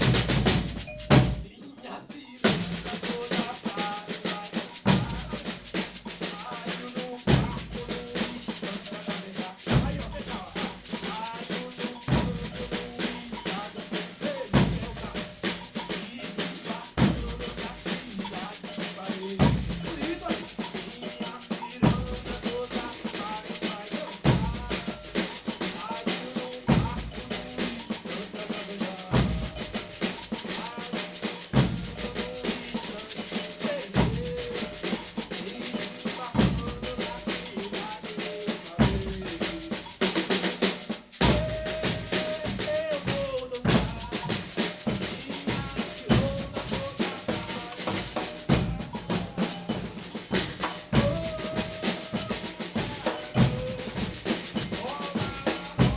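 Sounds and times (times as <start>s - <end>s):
percussion ensemble groove: 0.0s - 55.9s.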